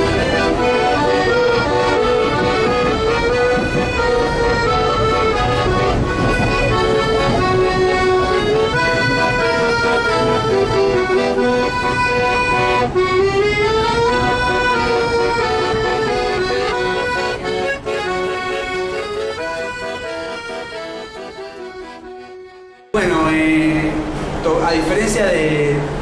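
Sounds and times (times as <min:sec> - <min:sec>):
accordion melody: 0:00.0 - 0:24.4.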